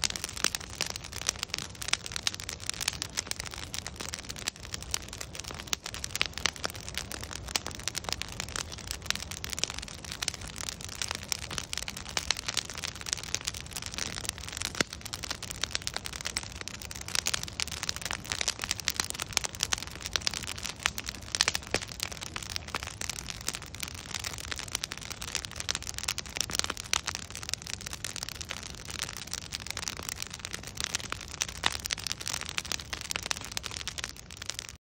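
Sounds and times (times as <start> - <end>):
soft rushing hiss of fire: 0.0 - 34.6
bonfire crackling and popping: 0.0 - 34.8.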